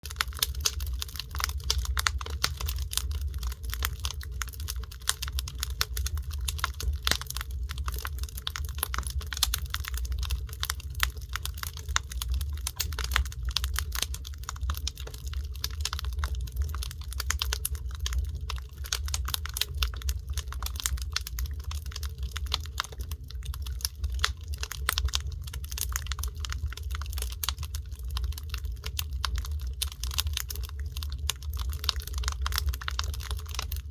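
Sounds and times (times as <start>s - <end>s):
fire pops and snaps: 0.0s - 33.9s
wood fire crackling: 0.0s - 33.9s.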